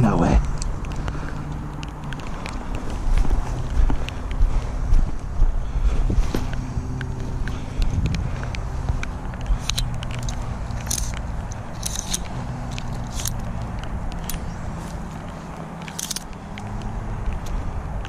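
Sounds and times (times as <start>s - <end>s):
gear rustling: 0.0s - 18.0s
steady low rumble: 0.0s - 18.0s
sharp clicks: 0.4s - 4.4s, 6.4s - 18.0s.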